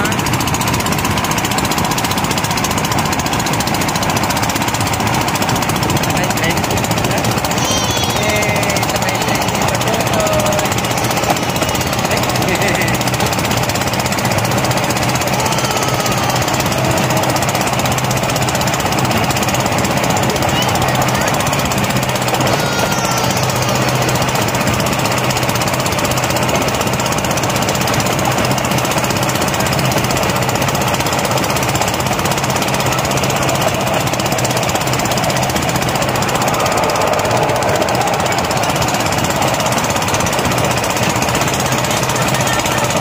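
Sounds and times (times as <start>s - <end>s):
vehicle engine running loudly: 0.0s - 43.0s.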